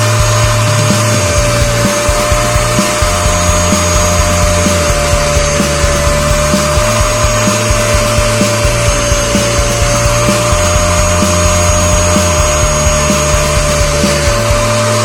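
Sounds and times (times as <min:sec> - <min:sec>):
background music with beat: 0:00.0 - 0:15.0
vacuum cleaner whining: 0:00.0 - 0:15.0.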